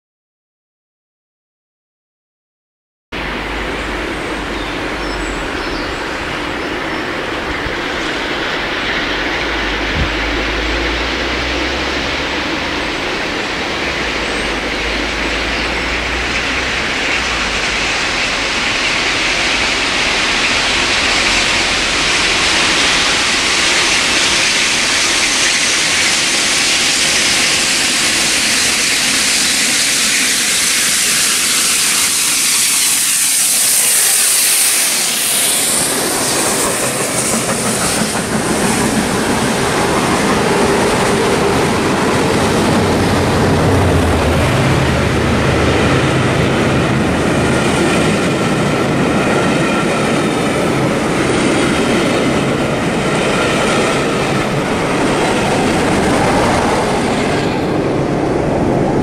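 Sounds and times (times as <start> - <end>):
steam hiss: 3.2 - 58.4
steam locomotive passing: 3.2 - 59.0
train wheels clattering on rail joints: 3.7 - 58.6.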